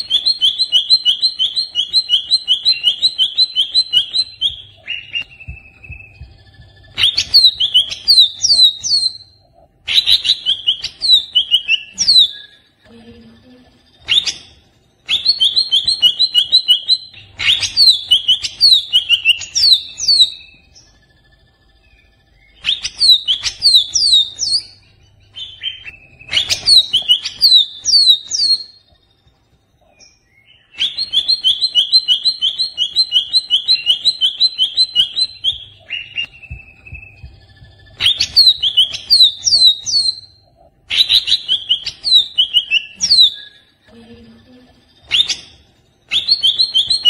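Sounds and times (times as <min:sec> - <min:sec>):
bird singing high repeated notes: 0:00.0 - 0:47.0.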